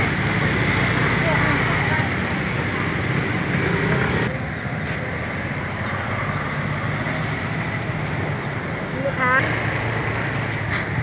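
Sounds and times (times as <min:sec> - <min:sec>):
market background noise: 0:00.0 - 0:11.0
road traffic: 0:00.0 - 0:11.0.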